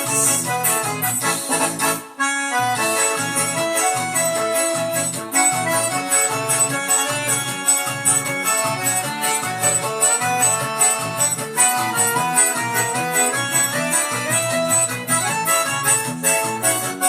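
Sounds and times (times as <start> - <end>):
electronic keyboard dance tune: 0.0 - 17.0.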